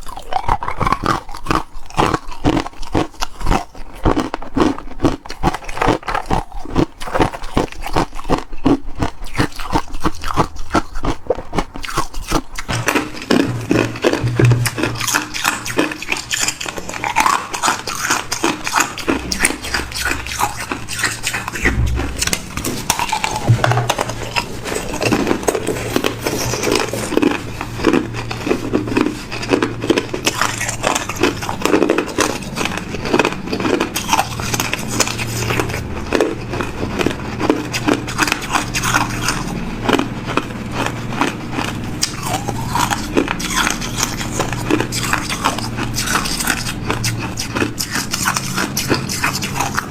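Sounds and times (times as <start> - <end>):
teeth crunching ice: 0.0 - 49.9.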